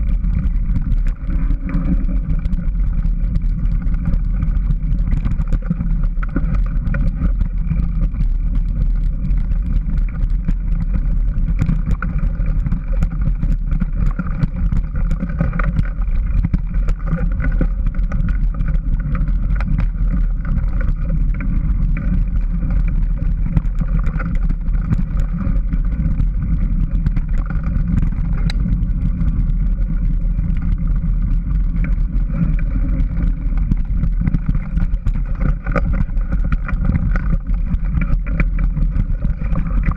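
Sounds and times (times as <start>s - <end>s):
bike rumble and rattle on dirt trail: 0.0s - 39.9s
clicks and knocks from bumps: 0.0s - 39.9s.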